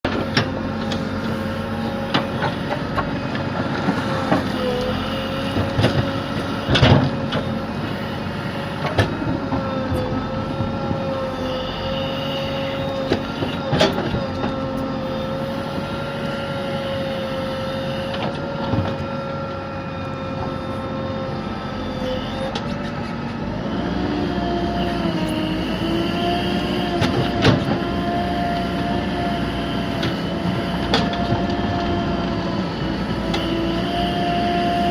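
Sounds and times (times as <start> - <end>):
excavator engine and hydraulic whine: 0.0 - 34.9.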